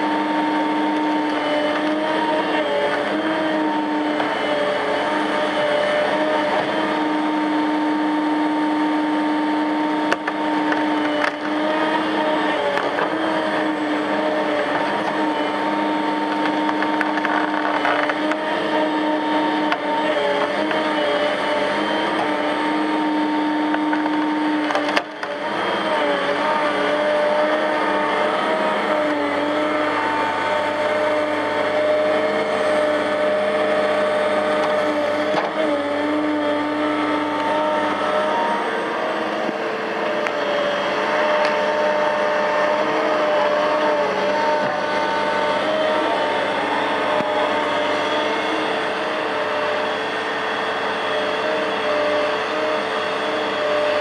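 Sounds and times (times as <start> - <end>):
excavator diesel engine and hydraulics: 0.0 - 54.0
wavering whine: 0.0 - 54.0.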